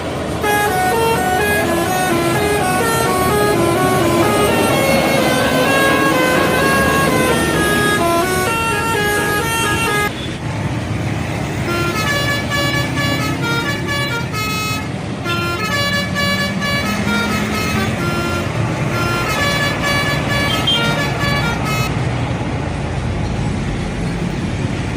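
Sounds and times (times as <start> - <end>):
bus engine running: 0.0 - 24.9
musical air horn melodies: 0.3 - 10.1, 11.6 - 22.0.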